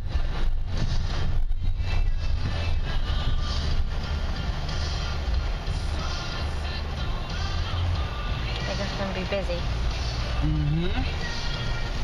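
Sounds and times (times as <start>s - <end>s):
faint music: 0.0s - 12.0s
vehicle rumble: 0.0s - 12.0s.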